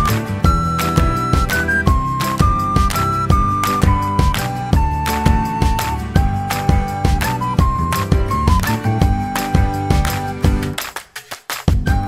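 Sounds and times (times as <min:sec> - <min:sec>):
simple melody over steady beat: 0:00.0 - 0:11.0.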